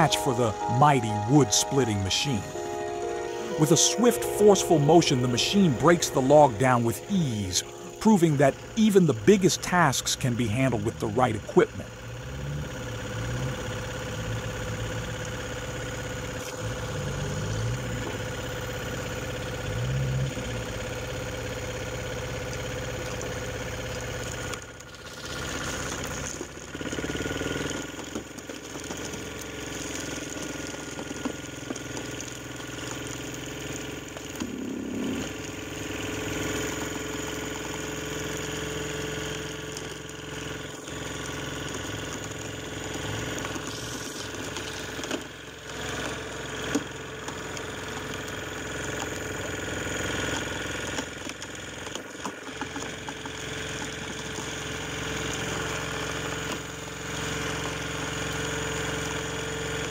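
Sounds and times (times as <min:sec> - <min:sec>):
log splitter engine running: 0:00.0 - 0:59.9.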